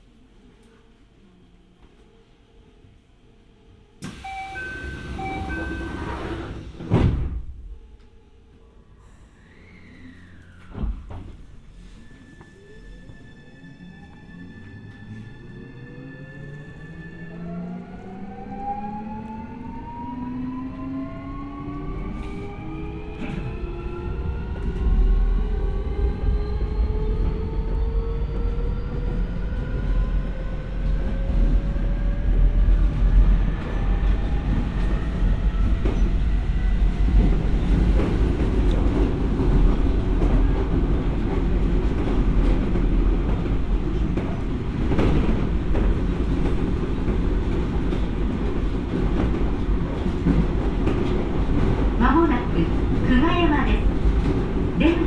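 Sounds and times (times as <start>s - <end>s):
wheels rumbling on rail: 4.0s - 8.1s, 9.5s - 55.0s.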